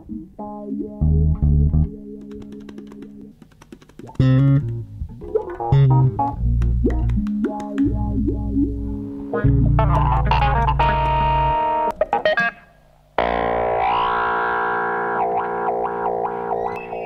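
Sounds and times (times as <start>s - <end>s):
instrumental theme music: 0.0s - 17.0s.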